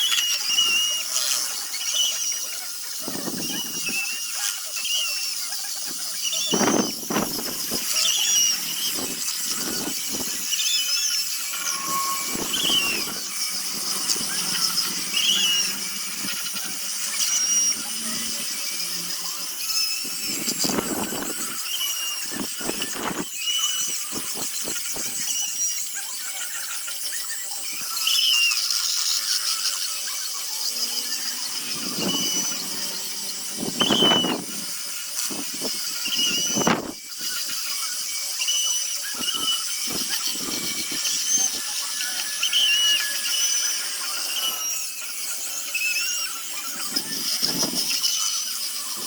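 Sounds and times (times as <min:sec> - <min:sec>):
rotary sanding tool on wood: 0:00.0 - 0:49.0.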